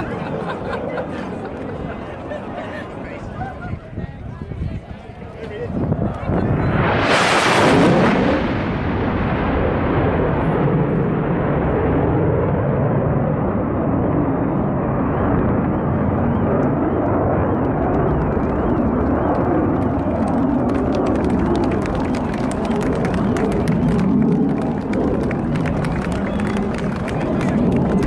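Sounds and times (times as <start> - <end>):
jet passing overhead: 0.0 - 28.0.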